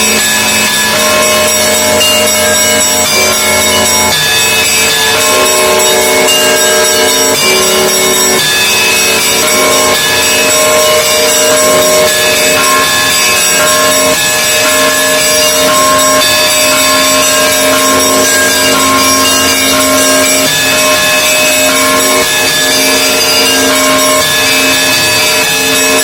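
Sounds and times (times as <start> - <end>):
monastery bells pealing: 0.0 - 26.0.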